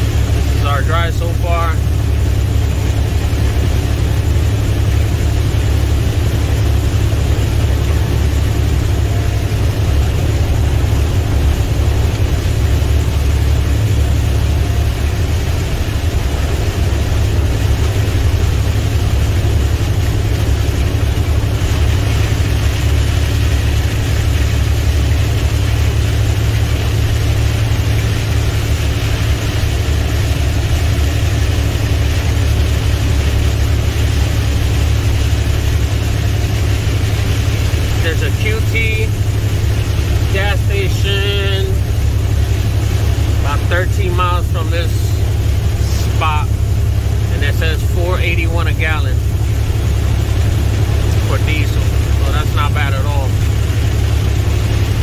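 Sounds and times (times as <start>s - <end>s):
rain and tyres on wet road: 0.0s - 55.0s
truck diesel engine drone: 0.0s - 55.0s.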